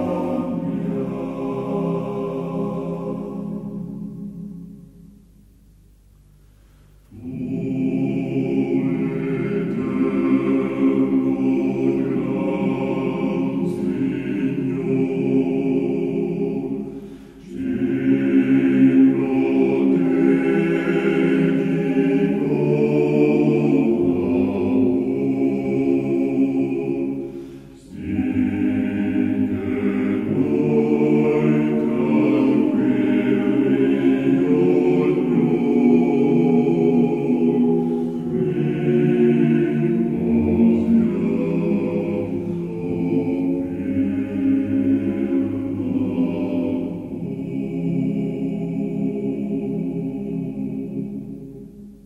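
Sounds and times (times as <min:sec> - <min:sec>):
men's choir singing: 0:00.0 - 0:04.7, 0:07.1 - 0:51.9.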